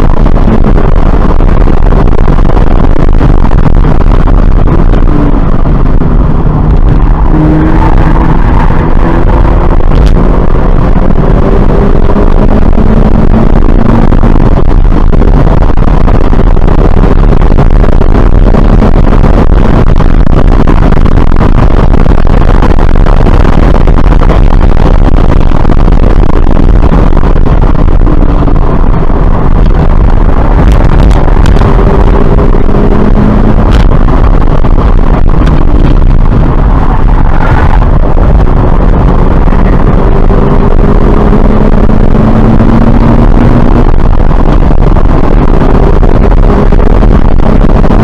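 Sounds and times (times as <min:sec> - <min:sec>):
car engine accelerating: 0:00.0 - 0:48.0
wind and road noise: 0:00.0 - 0:48.0.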